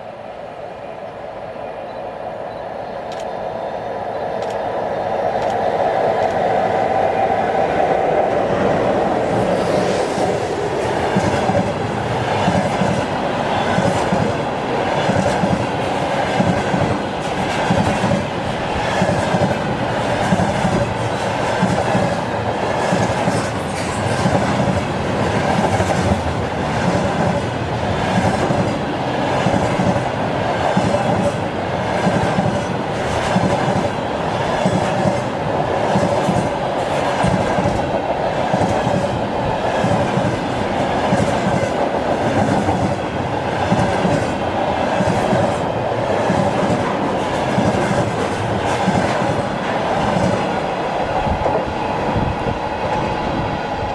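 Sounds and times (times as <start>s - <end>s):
train wheels clicking over rail joints: 5.4s - 6.6s, 9.3s - 51.6s.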